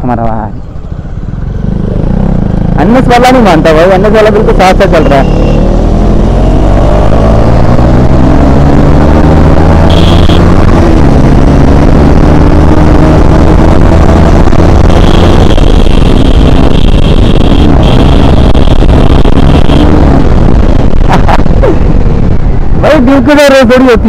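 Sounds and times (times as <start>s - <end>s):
motorcycle engine accelerating: 1.1s - 24.0s.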